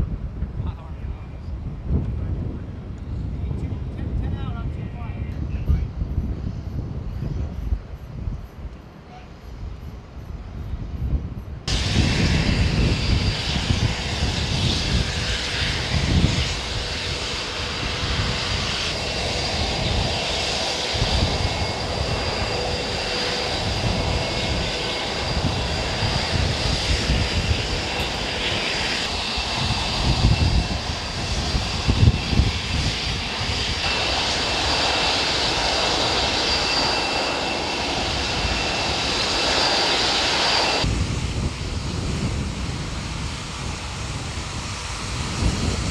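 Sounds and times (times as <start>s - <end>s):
jet engines rumbling and whining: 0.0s - 45.9s.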